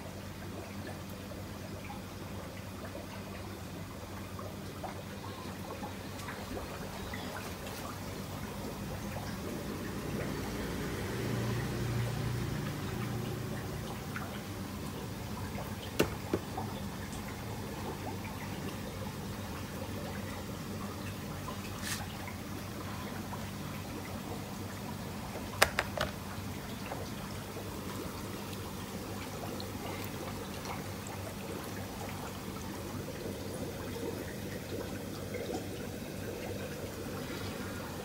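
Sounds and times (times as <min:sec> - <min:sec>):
water trickling and pouring: 0:00.1 - 0:38.0.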